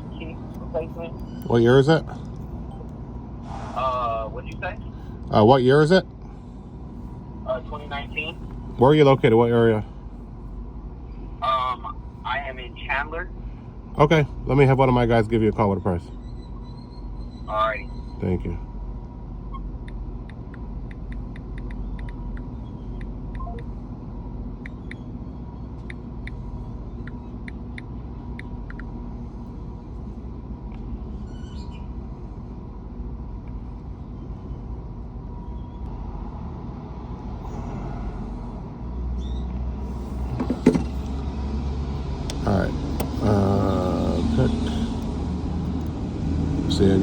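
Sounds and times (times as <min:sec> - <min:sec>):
steady low rumble: 0:00.0 - 0:39.1.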